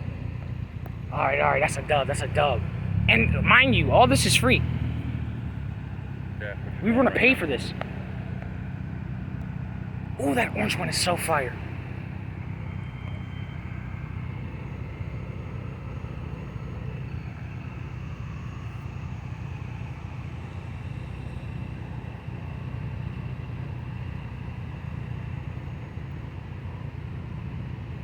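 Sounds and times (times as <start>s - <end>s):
car traffic rumble: 0.0s - 28.0s.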